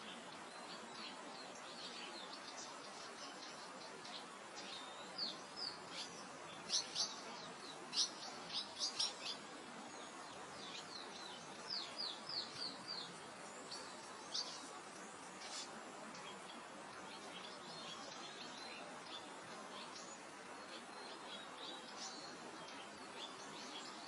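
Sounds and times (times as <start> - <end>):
songbirds chirping: 0.0 - 24.0
wind through grass: 0.0 - 24.0.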